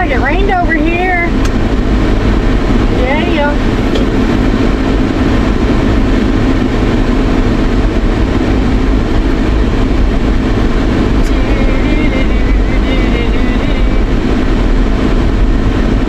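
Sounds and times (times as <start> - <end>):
vehicle cabin road noise: 0.0 - 16.0.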